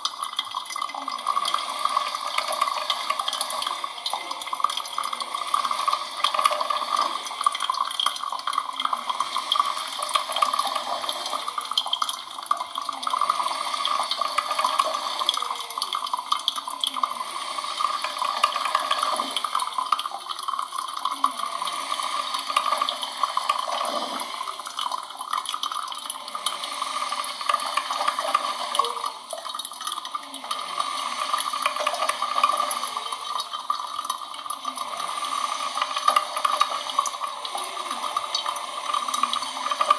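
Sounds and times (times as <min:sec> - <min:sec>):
coffee machine hissing and gurgling: 0:00.0 - 0:39.9.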